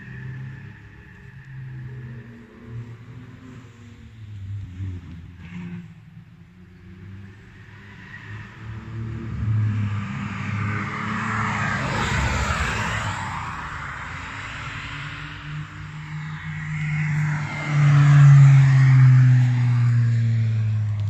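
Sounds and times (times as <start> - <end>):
car engine passing by: 0.0 - 21.0.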